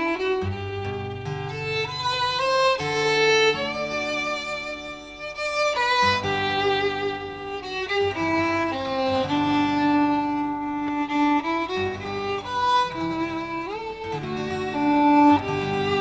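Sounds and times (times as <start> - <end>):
slow violin melody: 0.0 - 16.0.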